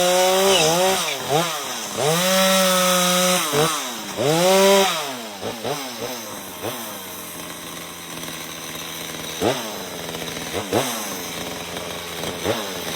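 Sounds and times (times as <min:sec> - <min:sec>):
chainsaw revving and cutting wood: 0:00.0 - 0:12.9.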